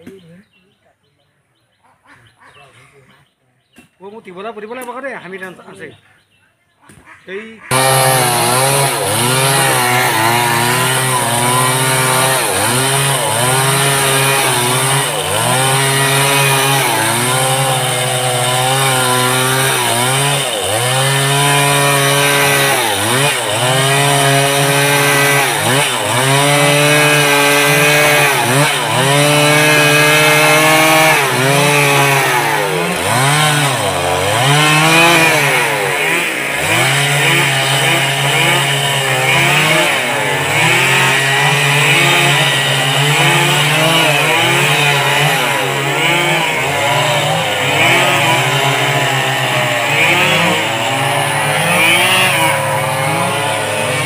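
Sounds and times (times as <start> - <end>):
chainsaw cutting wood: 7.7 - 54.0.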